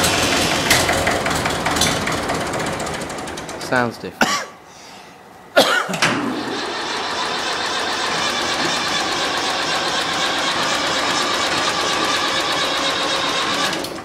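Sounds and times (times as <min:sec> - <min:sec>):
diesel engine turning over: 0:00.0 - 0:03.9, 0:05.9 - 0:14.0.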